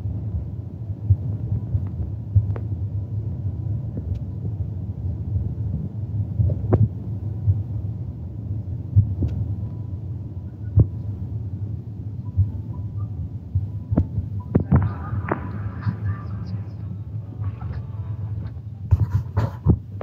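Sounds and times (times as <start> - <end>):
low rumble inside car cabin: 0.0 - 20.0.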